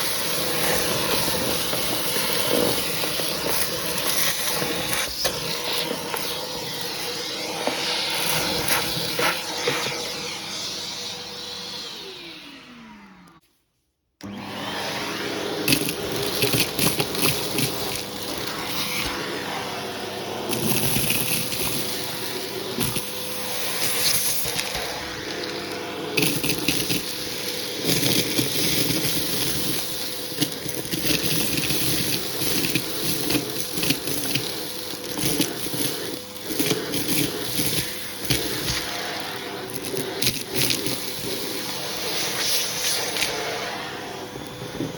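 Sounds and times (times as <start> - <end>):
debris clicking in vacuum hose: 0.0 - 10.0, 15.5 - 19.3, 20.5 - 44.9
vacuum cleaner running: 0.0 - 13.5, 14.2 - 44.9.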